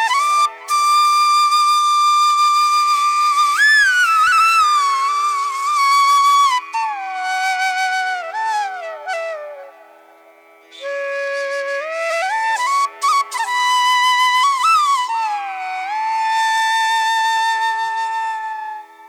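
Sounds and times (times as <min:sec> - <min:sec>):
flute melody over a drone: 0:00.0 - 0:10.0, 0:10.8 - 0:19.0.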